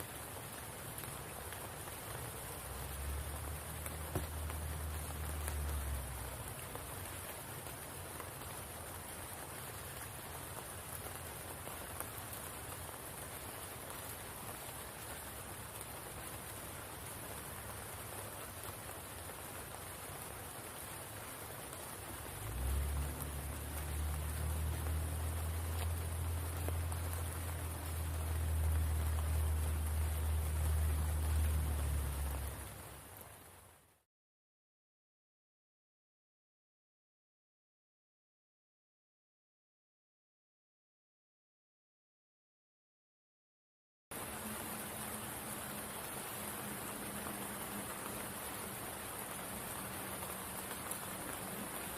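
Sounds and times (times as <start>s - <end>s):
rain falling on water and leaves: 0.0s - 34.0s, 44.1s - 51.9s.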